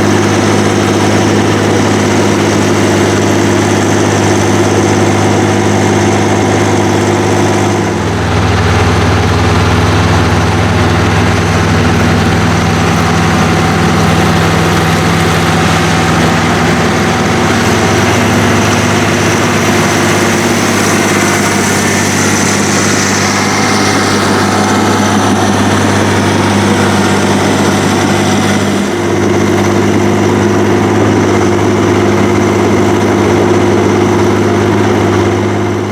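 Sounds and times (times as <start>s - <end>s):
diesel tractor engines running: 0.0s - 35.9s.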